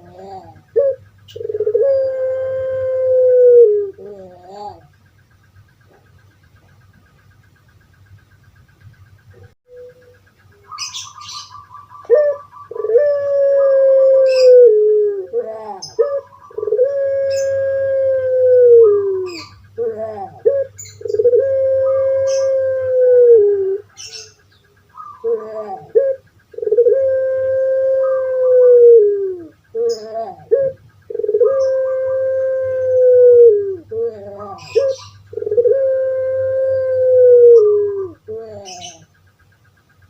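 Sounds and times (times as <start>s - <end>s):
dove cooing: 0.0s - 7.2s, 9.2s - 40.0s
small birds chirping: 0.0s - 40.0s.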